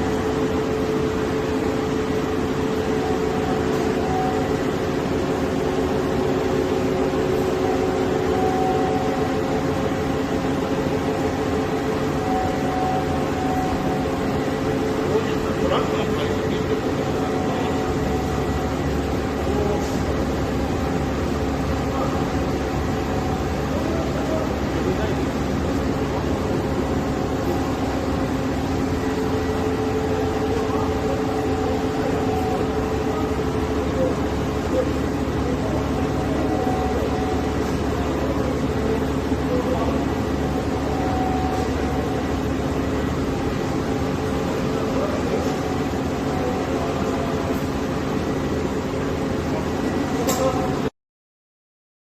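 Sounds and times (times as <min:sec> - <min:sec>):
high machine whine: 0:00.0 - 0:50.9
milling machine humming: 0:00.0 - 0:50.9.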